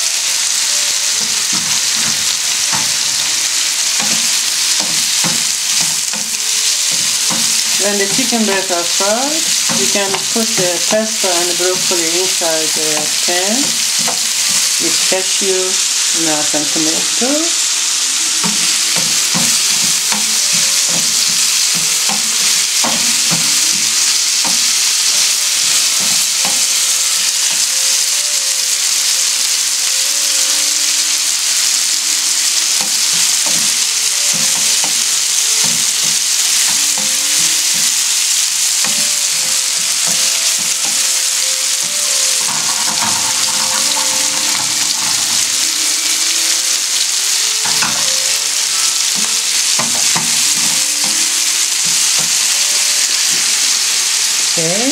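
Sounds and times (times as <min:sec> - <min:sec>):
food sizzling in frying pan: 0:00.0 - 0:54.9.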